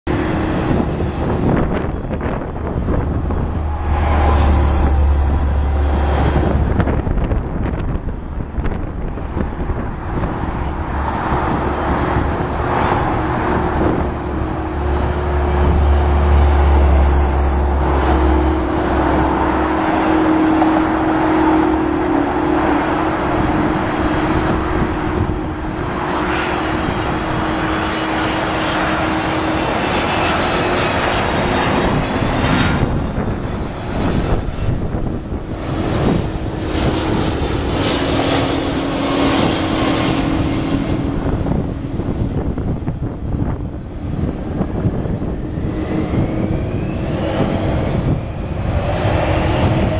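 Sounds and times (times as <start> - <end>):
jet engine noise: 0.1 - 49.9
low hum: 0.1 - 49.9.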